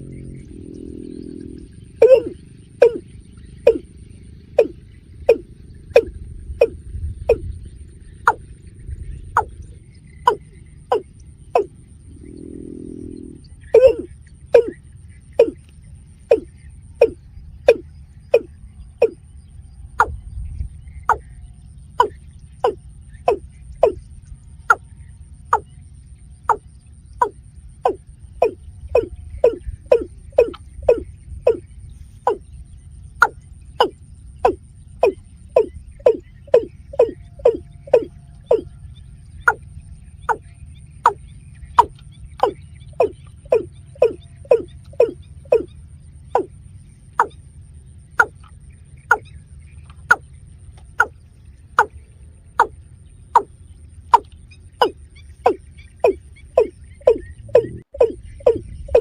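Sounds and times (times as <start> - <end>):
watercock calling: 0.0 - 8.6, 9.2 - 19.2, 20.0 - 20.2, 20.8 - 59.0
low rumble: 0.0 - 59.0
steady low hum: 0.0 - 59.0.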